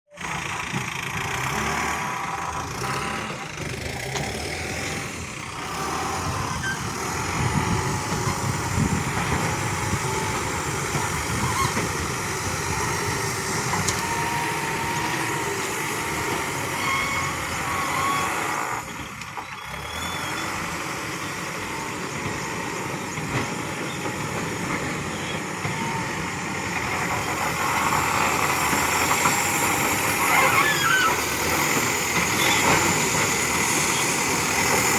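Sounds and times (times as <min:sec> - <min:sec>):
backhoe diesel engine running: 0:00.1 - 0:34.9.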